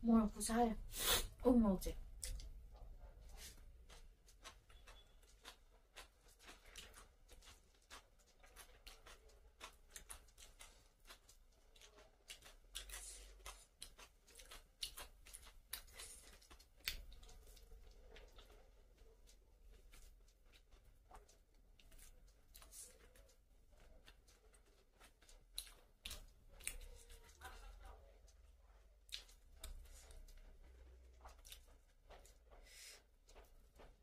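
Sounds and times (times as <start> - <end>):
chewing with mouth clicks: 2.1 - 34.0.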